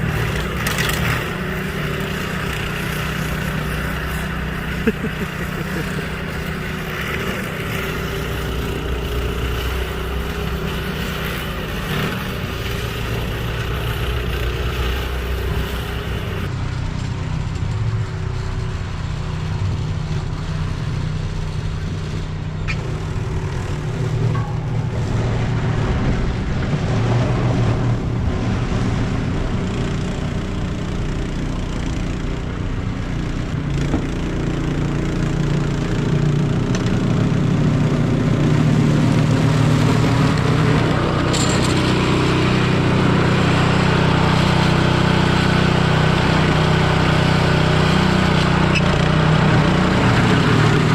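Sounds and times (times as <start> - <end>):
engine running under load: 0.0 - 50.9.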